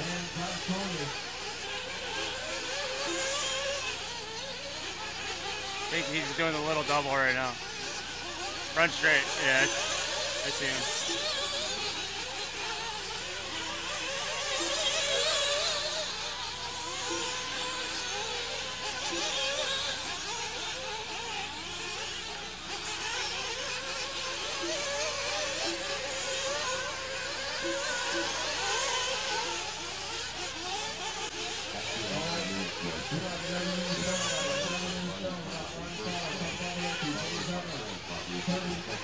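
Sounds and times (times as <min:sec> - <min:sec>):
small engines buzzing high-pitched: 0:00.0 - 0:39.0.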